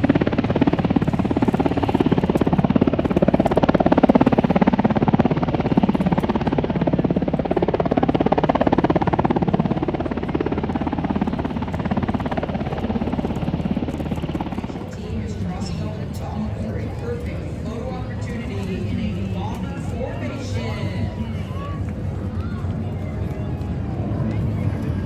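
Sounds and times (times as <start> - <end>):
aircraft flying past: 0.0 - 25.0.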